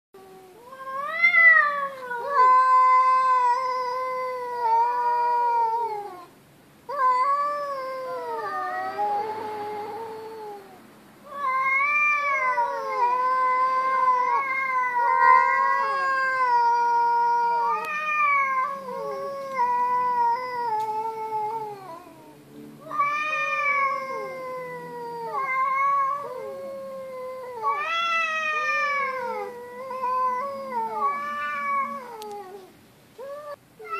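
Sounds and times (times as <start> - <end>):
cats yowling: 0.2 - 33.9.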